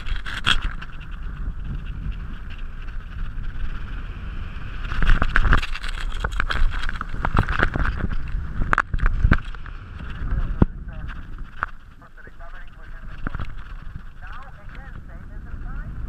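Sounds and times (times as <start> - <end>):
wing clicks and flaps: 0.0 - 4.0, 4.8 - 15.1
wind rushing over microphone: 0.0 - 16.0.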